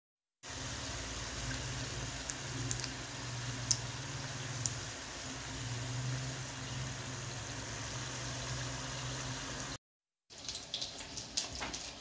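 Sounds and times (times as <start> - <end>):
oil sizzling and bubbling: 0.4 - 12.0.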